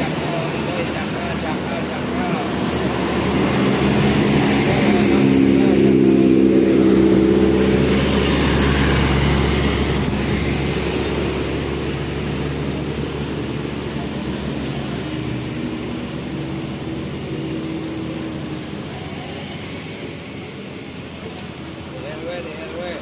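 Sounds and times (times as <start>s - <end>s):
bus engine and tyres passing: 0.0s - 23.0s.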